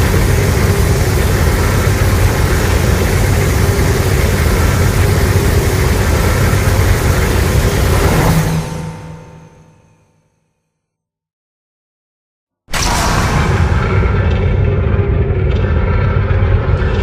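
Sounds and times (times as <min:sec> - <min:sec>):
loud low rumble: 0:00.0 - 0:10.0, 0:12.8 - 0:17.0.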